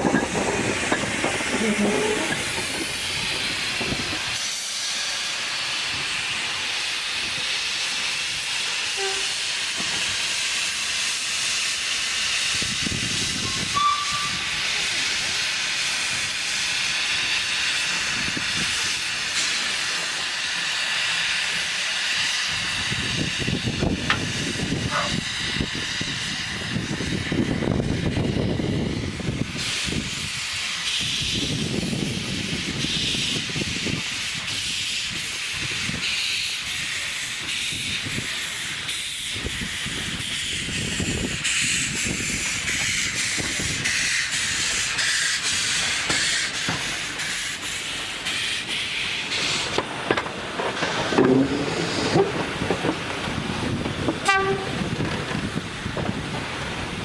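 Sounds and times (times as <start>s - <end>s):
steam locomotive hissing steam: 0.0s - 57.0s.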